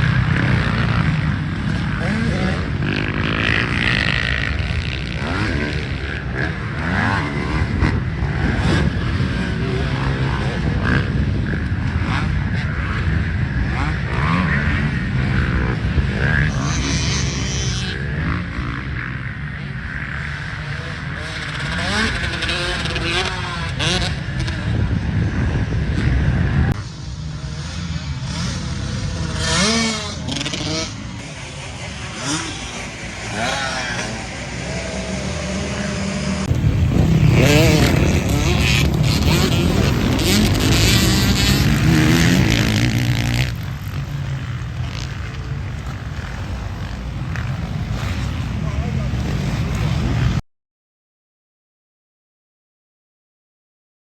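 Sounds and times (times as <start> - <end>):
dirt bike engines revving: 0.0 - 50.4.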